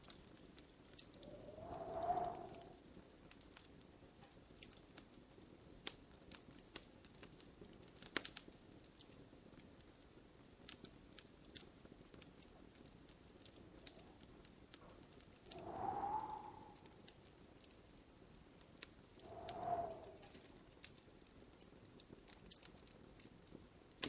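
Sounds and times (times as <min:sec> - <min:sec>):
fire pops and snaps: 0:00.0 - 0:17.9, 0:18.5 - 0:24.0
wood fire crackling: 0:00.0 - 0:24.0.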